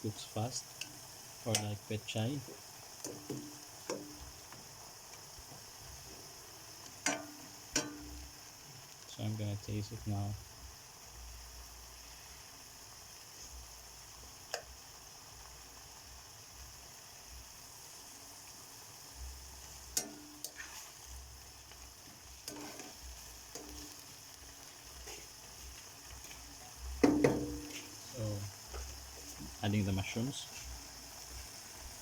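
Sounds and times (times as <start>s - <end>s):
leaves sizzling in a pan: 0.0s - 32.0s.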